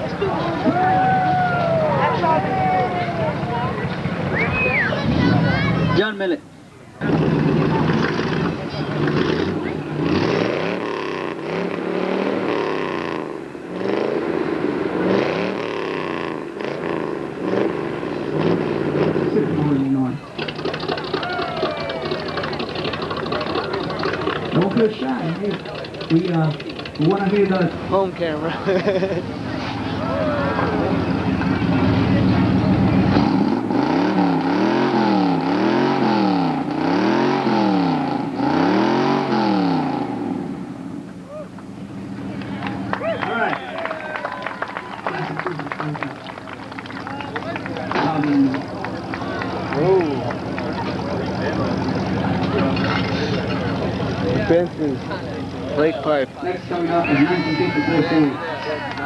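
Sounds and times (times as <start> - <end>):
car engine revving: 7.0 - 43.6, 44.5 - 59.0.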